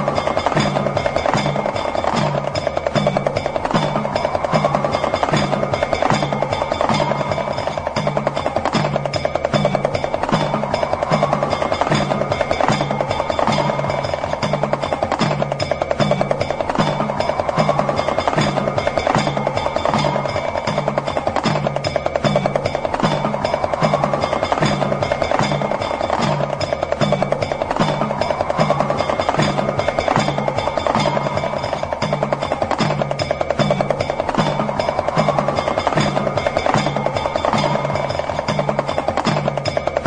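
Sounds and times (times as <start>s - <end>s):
hourglass drum rattling: 0.0s - 40.0s.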